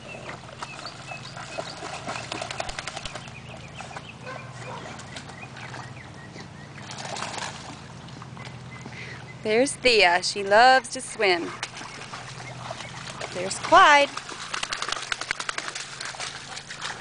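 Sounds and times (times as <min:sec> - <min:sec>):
dogs paddling through water: 0:00.0 - 0:17.0.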